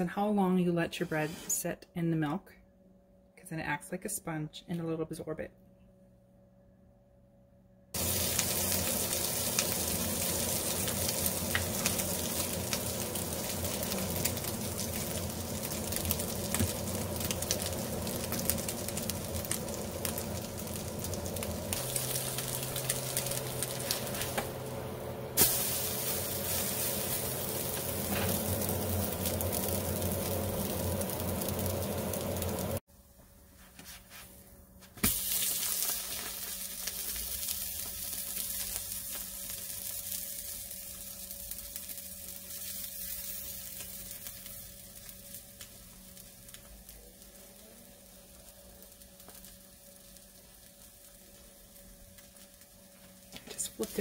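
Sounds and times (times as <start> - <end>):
bread sizzling in a pan: 8.0 - 32.9, 33.9 - 54.0.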